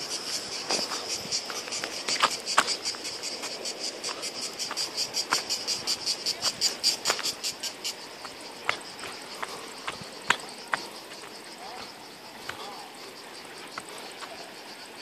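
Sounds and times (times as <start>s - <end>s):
cicadas pulsed chirping: 0.0s - 15.0s.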